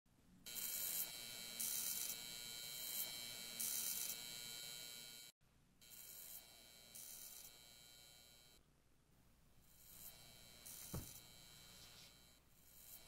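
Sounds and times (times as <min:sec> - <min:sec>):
neon sign buzzing: 0:00.5 - 0:08.6, 0:09.7 - 0:13.0.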